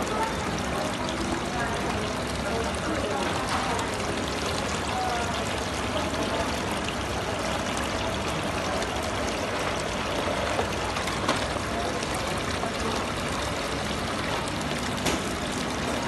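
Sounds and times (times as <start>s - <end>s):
fountain water pouring and splashing: 0.0s - 16.0s.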